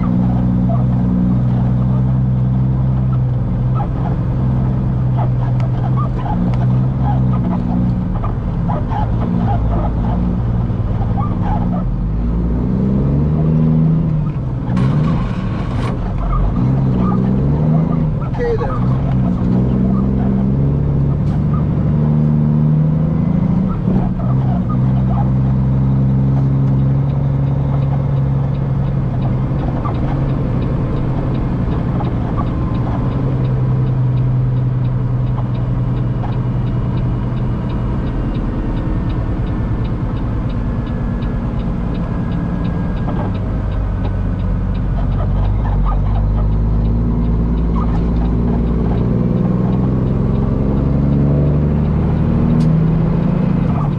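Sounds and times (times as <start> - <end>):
truck diesel engine droning: 0.0 - 53.9.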